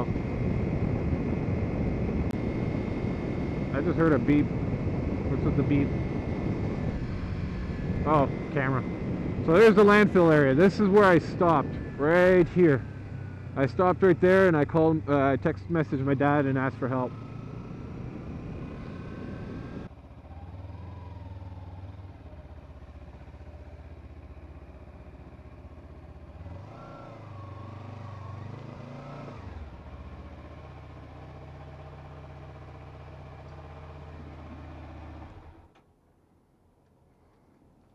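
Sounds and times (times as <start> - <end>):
motorcycle riding noise: 0.0 - 36.0
motorcycle engine idling and revving: 0.0 - 36.1.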